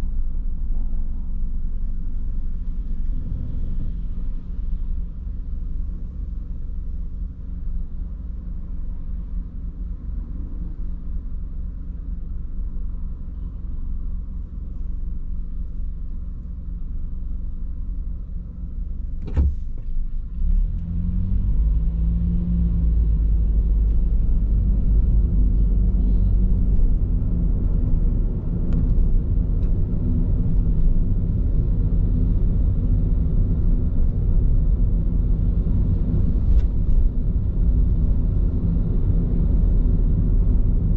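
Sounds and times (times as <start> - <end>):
road and tyre rumble in car: 0.0 - 40.9.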